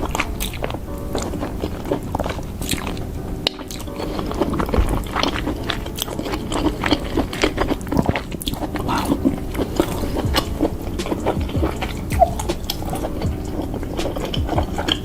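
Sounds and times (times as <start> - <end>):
close-miked chewing: 0.0 - 15.0.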